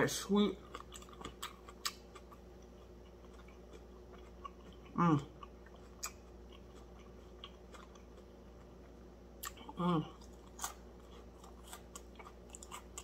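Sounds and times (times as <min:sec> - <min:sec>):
chewing crispy food: 0:00.0 - 0:13.0.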